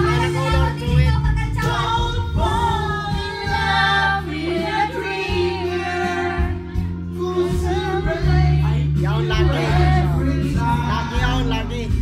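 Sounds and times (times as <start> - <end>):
backing track with bass: 0.0 - 12.0
people singing karaoke: 0.0 - 12.0.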